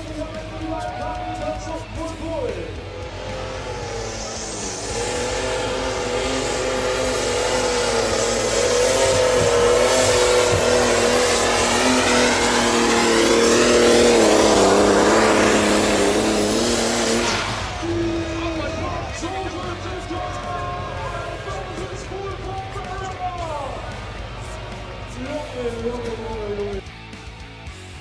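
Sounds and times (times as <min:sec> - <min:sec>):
tractor diesel engine at full power: 0:00.0 - 0:28.0.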